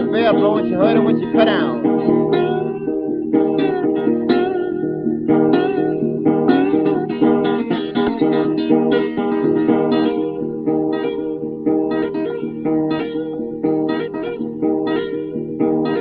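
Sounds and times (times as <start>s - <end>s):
acoustic blues guitar: 0.0s - 16.0s.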